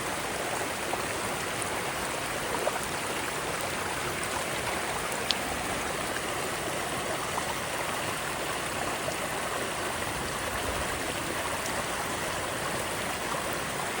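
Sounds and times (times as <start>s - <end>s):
stream flowing over rocks: 0.0s - 14.0s.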